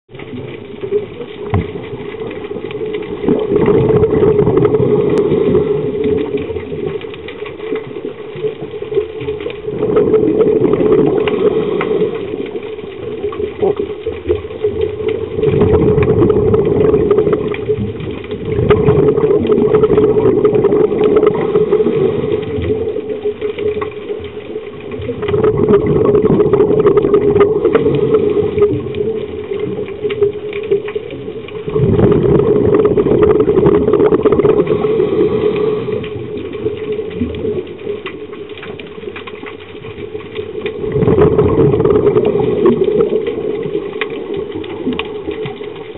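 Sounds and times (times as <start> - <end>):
underwater air bubbles burbling: 0.1 - 45.9.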